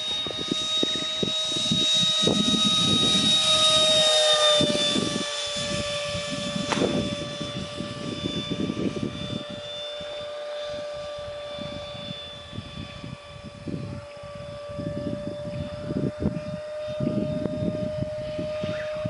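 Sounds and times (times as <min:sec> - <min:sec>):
model jet fan whining: 0:00.0 - 0:19.0
wind buffeting microphone: 0:00.0 - 0:19.0.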